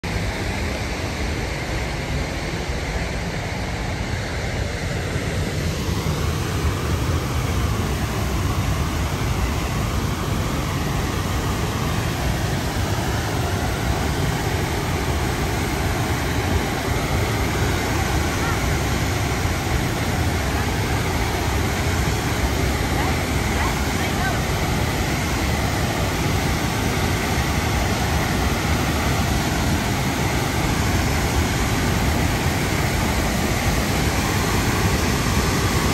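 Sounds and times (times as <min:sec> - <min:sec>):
waterfall roaring: 0:00.0 - 0:35.9.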